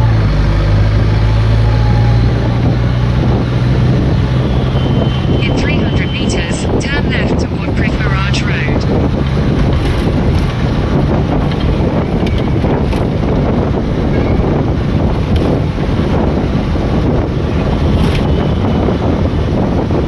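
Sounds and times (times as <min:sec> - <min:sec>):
vehicle road and engine noise: 0:00.0 - 0:20.0
wind buffeting microphone: 0:00.0 - 0:20.0.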